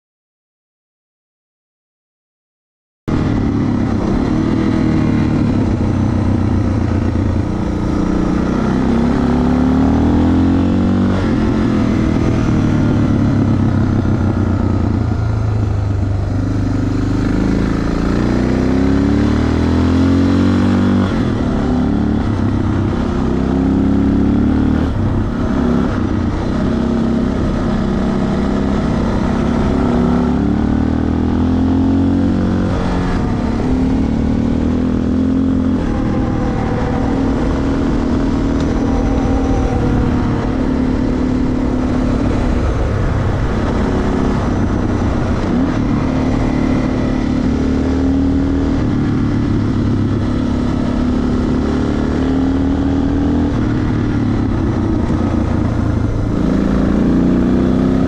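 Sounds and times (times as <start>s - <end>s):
motorcycle engine revving: 3.1s - 58.0s.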